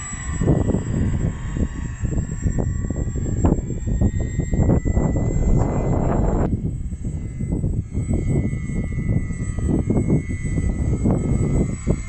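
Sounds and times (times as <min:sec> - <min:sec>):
model plane propeller whine: 0:00.0 - 0:12.0
wind buffeting microphone: 0:00.0 - 0:12.0.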